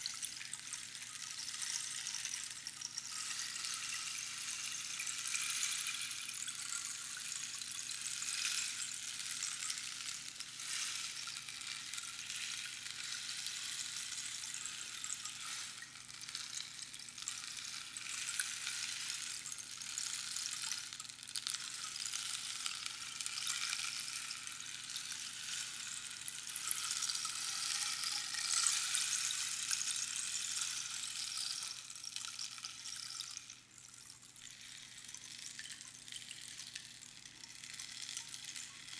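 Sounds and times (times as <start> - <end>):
rainstick pebbles trickling: 0.0 - 38.9.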